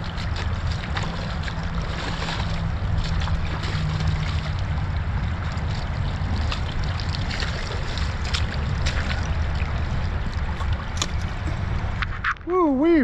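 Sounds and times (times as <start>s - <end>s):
boots wading and splashing: 0.0s - 12.0s
creek water rushing: 0.0s - 12.1s.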